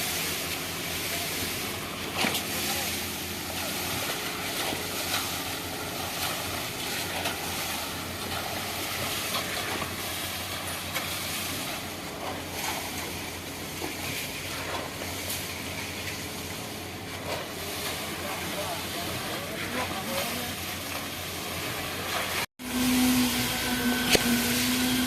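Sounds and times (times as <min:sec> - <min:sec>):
concrete pump engine hum: 0:00.0 - 0:25.0.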